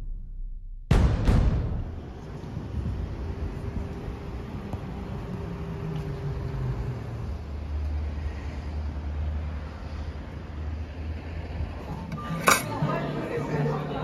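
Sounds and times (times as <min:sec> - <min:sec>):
road traffic rumble: 0:01.6 - 0:14.0.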